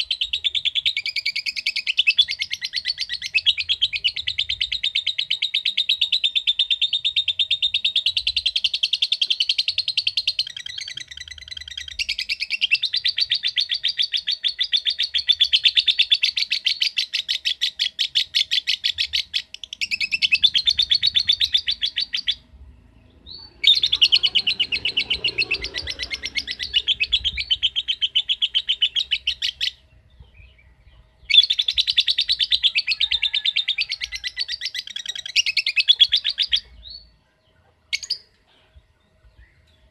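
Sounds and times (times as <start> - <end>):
lovebird chattering: 0.0 - 22.5, 23.3 - 29.8, 31.3 - 36.8.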